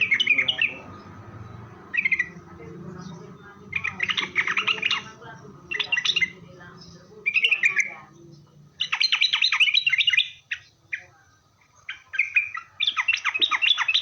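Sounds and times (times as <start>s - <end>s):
bulbul singing: 0.0s - 14.0s.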